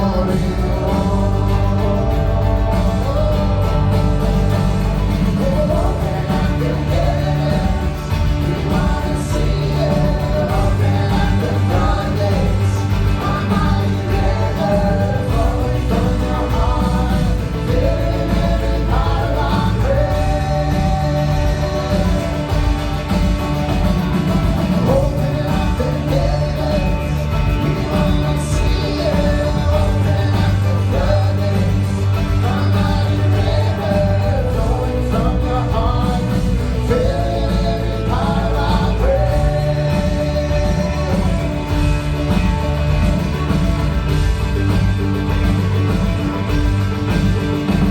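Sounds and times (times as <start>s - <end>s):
band playing worship music: 0.0s - 47.9s
singing: 0.0s - 47.9s.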